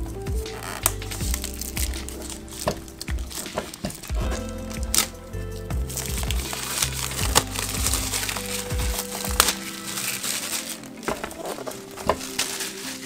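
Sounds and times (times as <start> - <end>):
background music: 0.0 - 13.0
plastic shrink wrap crinkling: 0.0 - 13.0.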